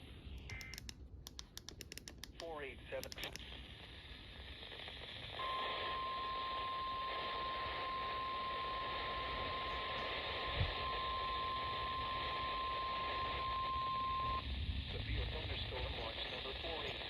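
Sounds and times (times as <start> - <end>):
radio static hiss: 0.0 - 0.9, 2.3 - 17.0.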